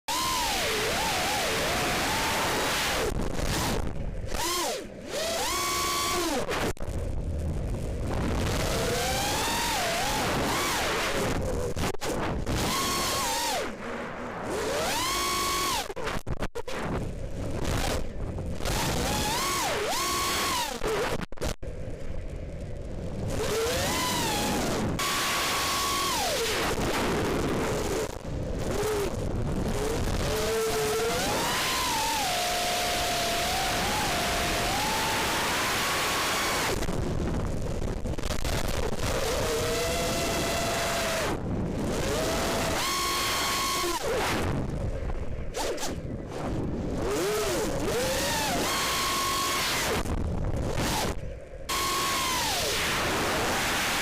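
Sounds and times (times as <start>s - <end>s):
drone motors whining: 0.1s - 7.1s, 7.7s - 21.6s, 23.2s - 54.0s
steady rushing noise: 0.1s - 54.0s.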